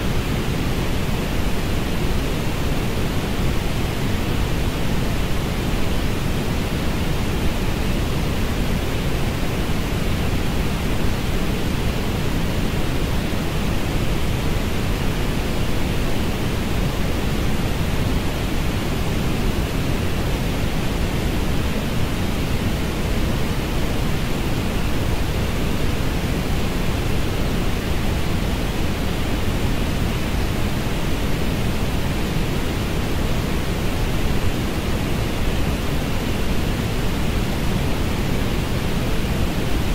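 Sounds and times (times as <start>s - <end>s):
steady low-heavy noise hiss: 0.0s - 39.9s.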